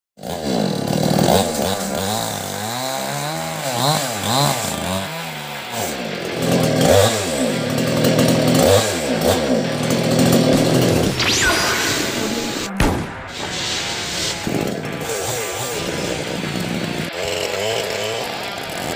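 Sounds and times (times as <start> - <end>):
chainsaw engine revving: 0.2 - 12.6, 13.3 - 18.9.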